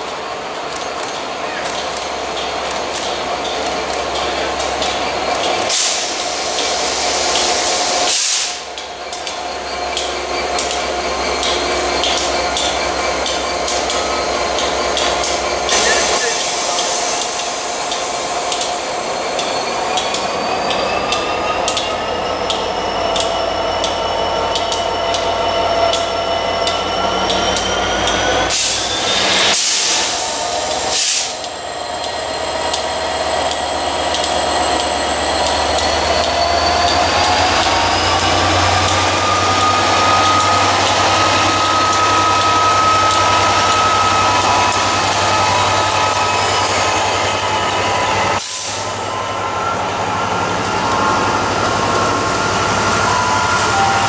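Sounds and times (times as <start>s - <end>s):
diesel locomotive engine: 0.0s - 54.0s.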